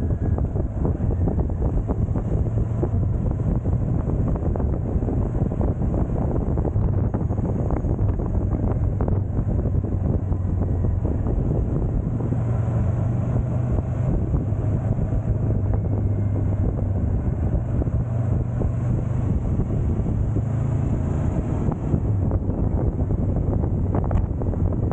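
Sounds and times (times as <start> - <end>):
motorcycle engine cruising: 0.0 - 24.9
wind buffeting microphone: 0.0 - 24.9.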